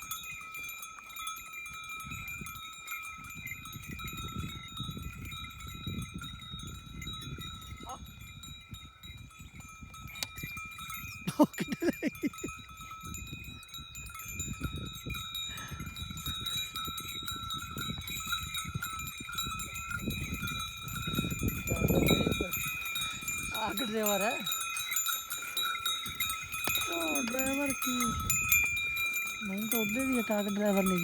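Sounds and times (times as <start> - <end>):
bells ringing on bulls: 0.0 - 31.0.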